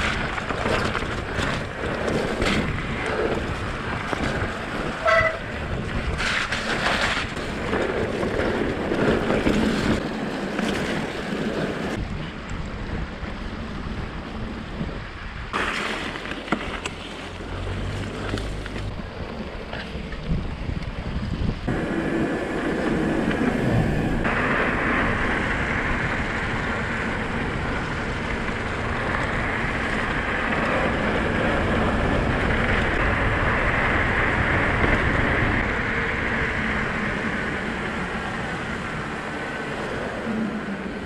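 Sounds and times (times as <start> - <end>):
wind on microphone: 0.0 - 15.6, 17.6 - 41.0
bike tyre noise and rattle: 0.0 - 41.0.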